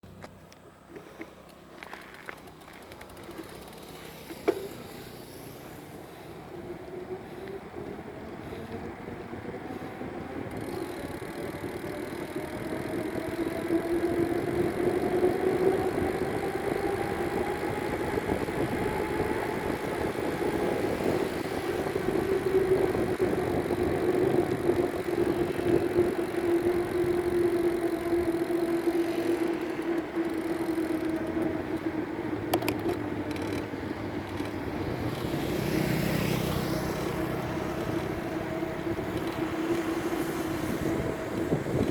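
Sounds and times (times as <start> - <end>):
road noise: 0.0 - 41.9
vehicle engine hum: 0.0 - 41.9.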